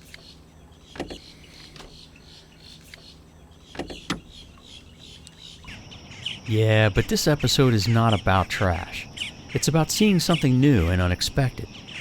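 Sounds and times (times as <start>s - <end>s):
faint bird chirps: 0.0s - 12.0s
lake ambience: 0.0s - 12.0s.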